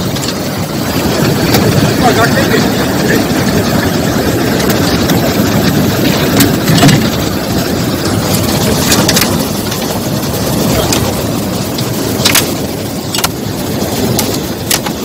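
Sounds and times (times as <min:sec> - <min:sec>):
outboard motor running: 0:00.0 - 0:15.0
water rushing: 0:00.0 - 0:15.0.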